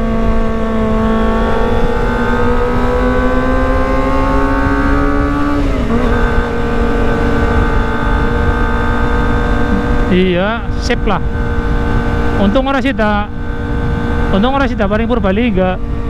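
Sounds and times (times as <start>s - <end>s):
low wind rush: 0.0s - 16.0s
motorcycle engine at high revs: 0.0s - 16.0s.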